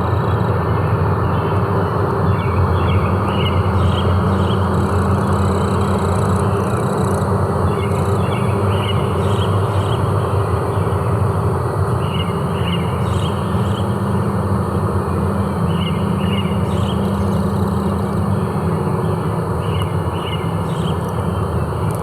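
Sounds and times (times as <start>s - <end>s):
small birds chirping: 1.2s - 11.3s, 12.0s - 14.3s, 15.0s - 22.0s.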